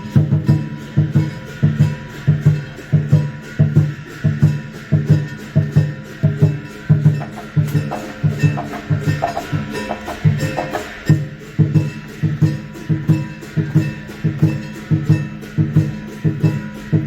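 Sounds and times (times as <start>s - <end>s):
music with pulsing bass beat: 0.0s - 17.0s.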